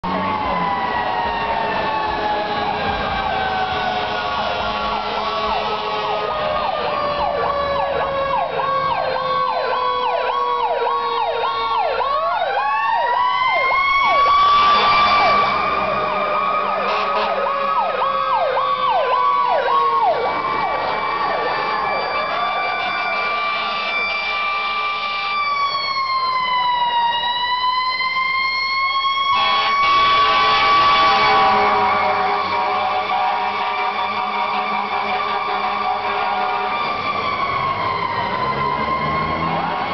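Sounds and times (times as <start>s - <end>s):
wailing siren falling and rising: 0.0s - 39.9s
yelping siren: 0.0s - 39.9s.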